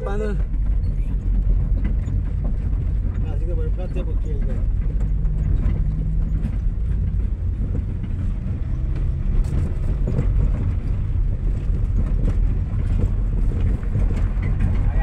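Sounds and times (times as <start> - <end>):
light knocks and rattles: 0.0 - 15.0
vehicle engine rumbling: 0.0 - 15.0.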